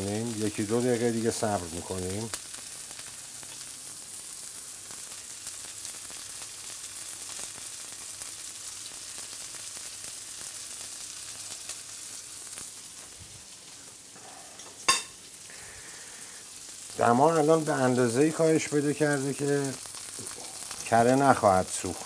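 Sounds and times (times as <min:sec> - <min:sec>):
steaks sizzling in butter: 0:00.0 - 0:22.0.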